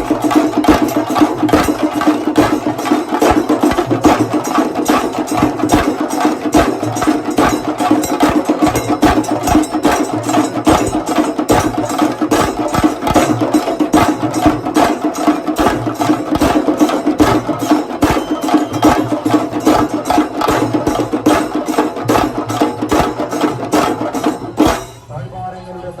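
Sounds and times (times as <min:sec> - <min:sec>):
fast drumming with sticks: 0:00.0 - 0:25.0.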